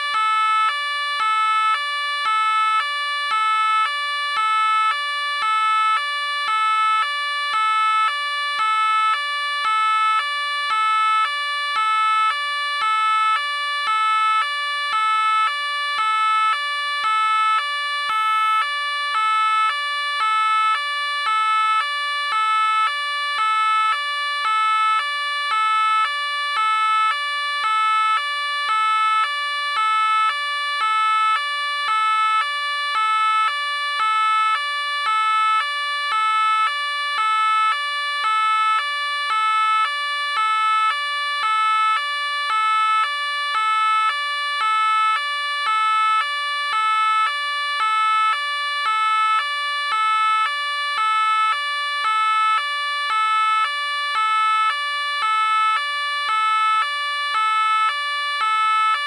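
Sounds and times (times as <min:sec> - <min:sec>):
two-tone police siren: 0:00.0 - 0:59.0.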